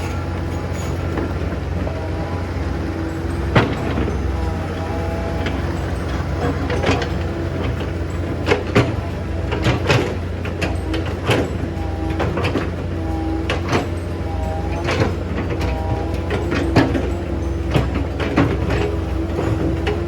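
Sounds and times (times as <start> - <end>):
hydraulic excavator whining: 0.0 - 20.0.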